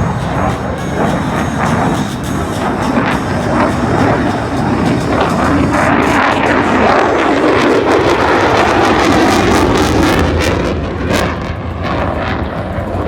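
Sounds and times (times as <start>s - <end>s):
propeller airplane engine: 0.0s - 13.0s.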